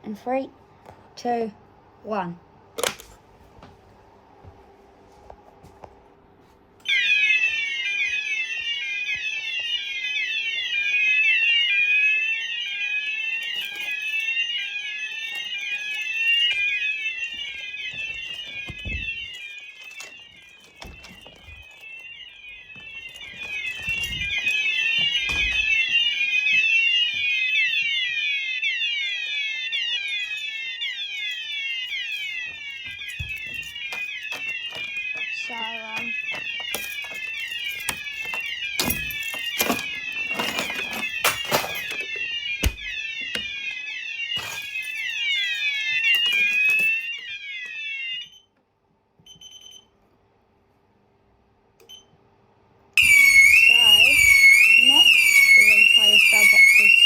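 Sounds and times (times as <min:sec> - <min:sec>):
fire alarm sweeping tone: 0:06.8 - 0:48.6, 0:53.0 - 0:57.0.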